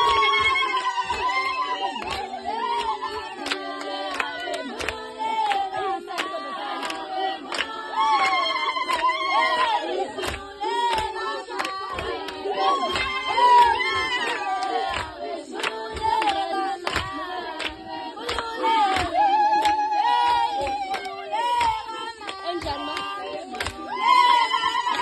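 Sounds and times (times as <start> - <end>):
hand claps: 0.0 - 25.0
women singing together: 0.0 - 25.0.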